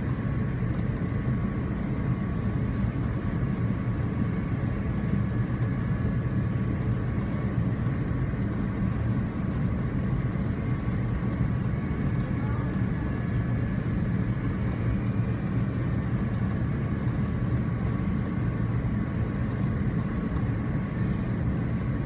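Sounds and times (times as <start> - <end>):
aircraft cabin engine rumble: 0.0 - 22.0
faint steady whine: 0.0 - 22.0.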